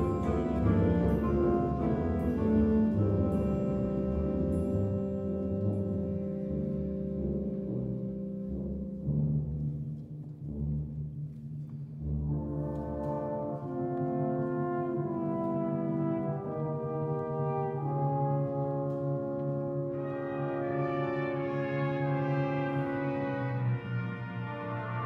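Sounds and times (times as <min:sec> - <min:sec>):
sustained brass chords: 0:00.0 - 0:11.2, 0:12.2 - 0:25.0
wind band low notes: 0:00.0 - 0:25.0.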